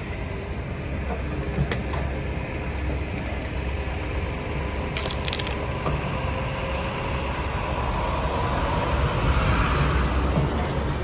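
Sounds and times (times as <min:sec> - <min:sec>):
excavator engine running: 0:00.0 - 0:09.2.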